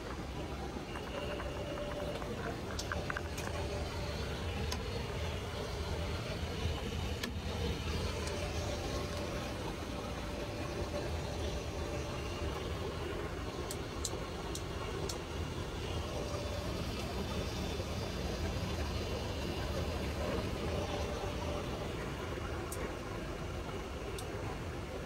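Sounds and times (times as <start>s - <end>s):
aircraft engine rumble: 0.0s - 23.2s.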